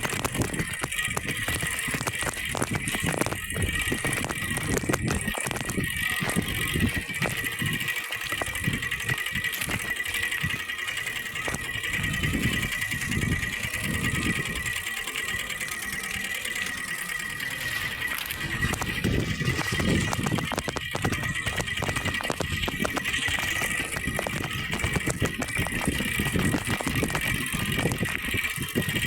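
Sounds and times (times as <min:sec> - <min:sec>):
plastic strip slapping bicycle spokes: 0:00.0 - 0:29.0.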